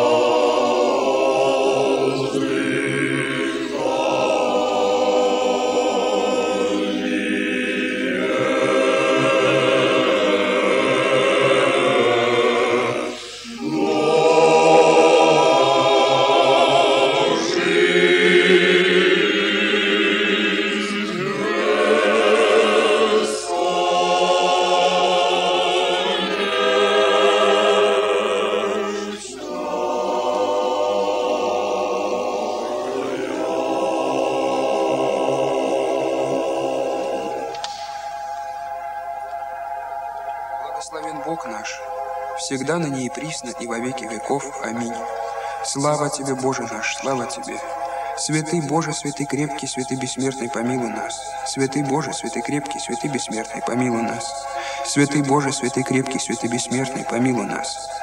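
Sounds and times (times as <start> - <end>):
choir singing unaccompanied chant: 0.0 - 58.0.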